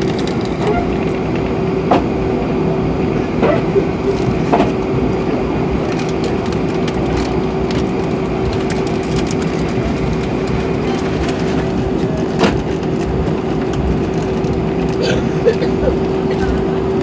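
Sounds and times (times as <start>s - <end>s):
jet engine cabin drone: 0.0s - 17.0s
steady hum: 0.0s - 17.0s.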